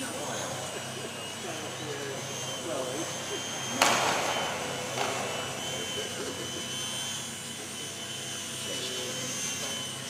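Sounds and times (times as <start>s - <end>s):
small electric motor and propeller whining: 0.0s - 10.0s.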